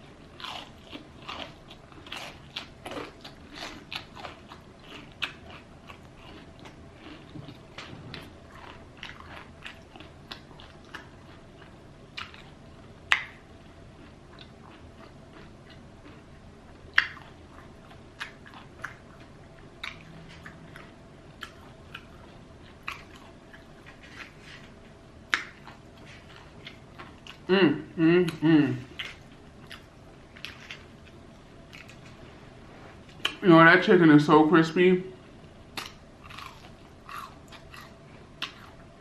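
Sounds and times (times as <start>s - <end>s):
chewing: 0.2s - 27.5s, 28.3s - 32.2s, 35.8s - 39.0s.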